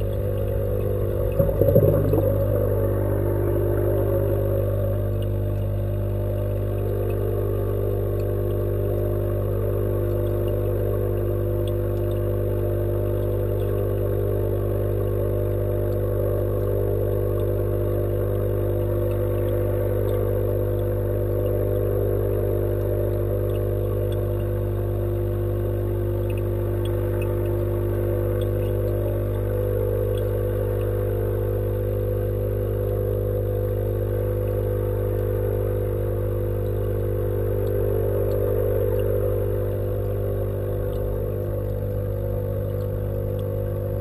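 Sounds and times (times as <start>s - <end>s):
faint ticks: 0.0s - 2.9s, 3.5s - 44.0s
underwater machine hum: 0.0s - 44.0s.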